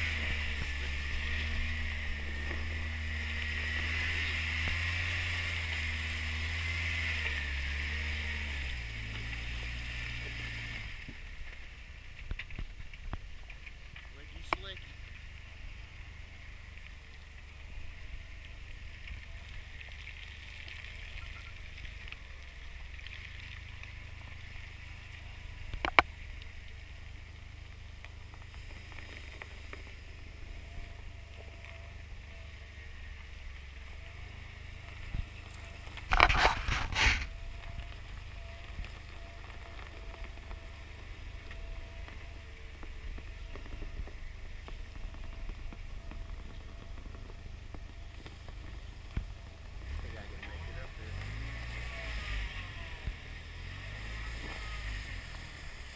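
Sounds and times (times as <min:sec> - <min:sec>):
engine and tyres rumbling: 0:00.0 - 0:55.9.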